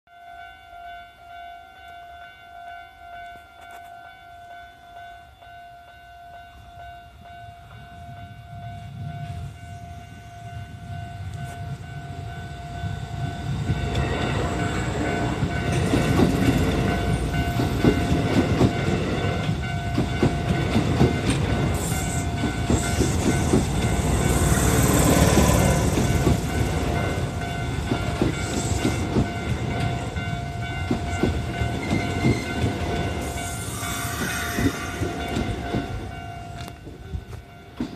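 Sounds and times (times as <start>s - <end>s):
level crossing warning bell: 0.1s - 37.9s
electric train rumbling past: 4.1s - 37.9s.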